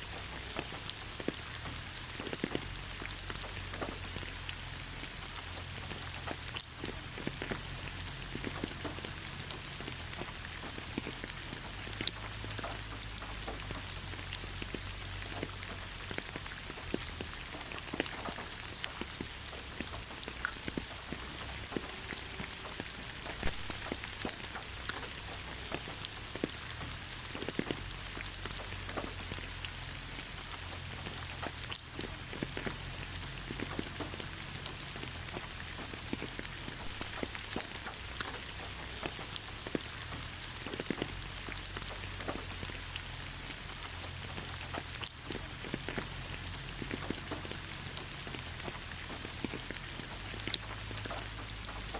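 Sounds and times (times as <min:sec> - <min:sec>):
raindrops ticking close by: 0:00.0 - 0:51.9
steady rainfall hiss: 0:00.0 - 0:51.9.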